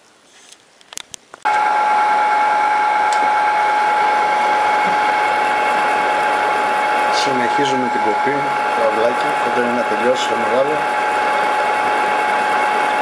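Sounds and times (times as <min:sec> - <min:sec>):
milling machine whining: 0:01.5 - 0:13.0.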